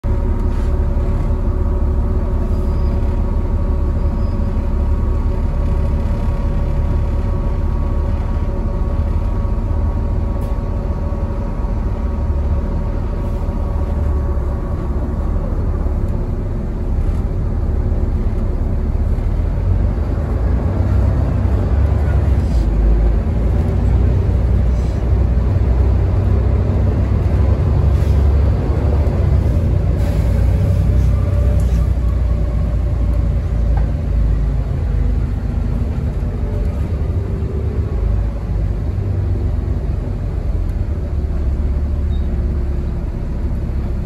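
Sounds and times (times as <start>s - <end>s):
bus diesel engine droning: 0.0s - 44.0s.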